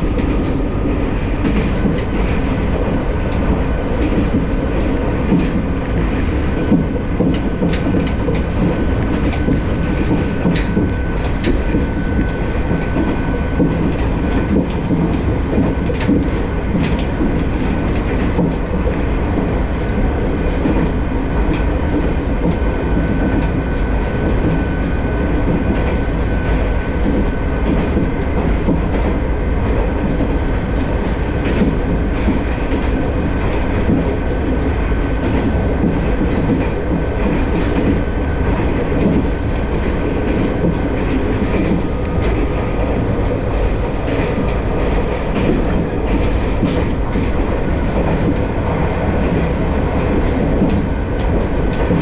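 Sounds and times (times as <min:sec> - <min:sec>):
railcar engine and wheels drone: 0:00.0 - 0:52.0.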